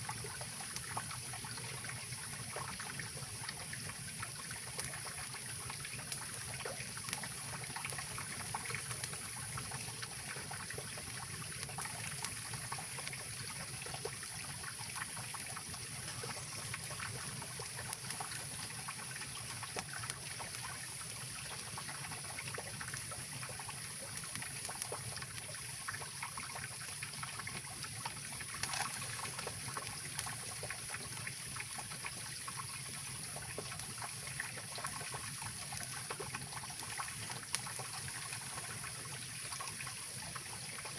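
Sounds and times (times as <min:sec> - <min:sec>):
campfire crackling: 0:00.1 - 0:40.9.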